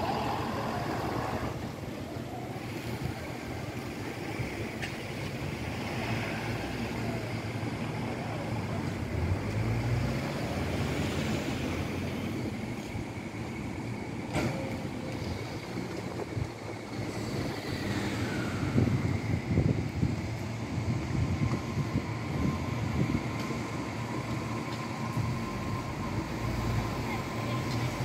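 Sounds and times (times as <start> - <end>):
electric train running hum: 0.0 - 28.0.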